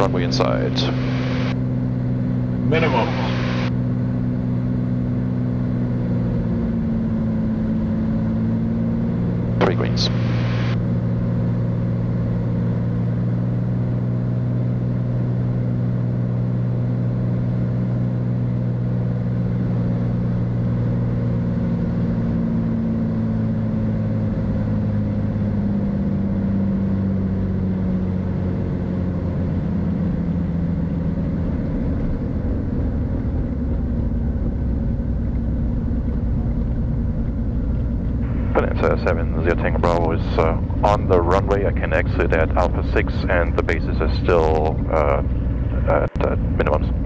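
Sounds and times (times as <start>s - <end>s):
airplane rolling on runway: 0.0s - 47.0s
propeller plane engine droning: 0.0s - 47.0s.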